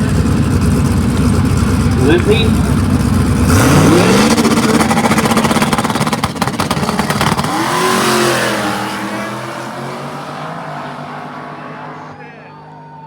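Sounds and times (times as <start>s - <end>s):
drag race cars at full throttle: 0.0s - 13.0s.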